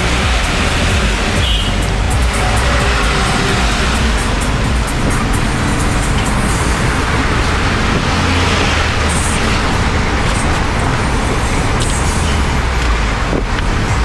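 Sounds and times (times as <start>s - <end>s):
car engine drone: 0.0s - 14.0s
tyres on wet road: 0.0s - 14.0s.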